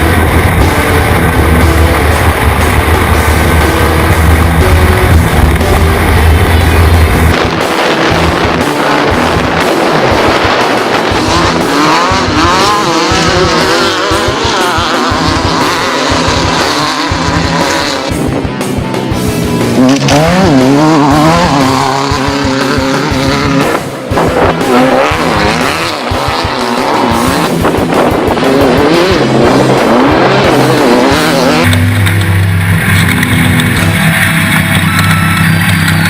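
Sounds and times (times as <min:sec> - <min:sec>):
engine revving: 0:00.0 - 0:36.0.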